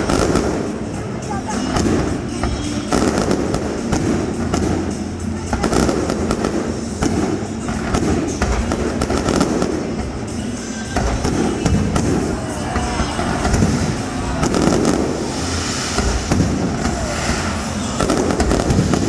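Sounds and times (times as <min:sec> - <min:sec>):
fireworks bangs and crackle: 0:00.0 - 0:19.0
music playing: 0:00.0 - 0:19.0.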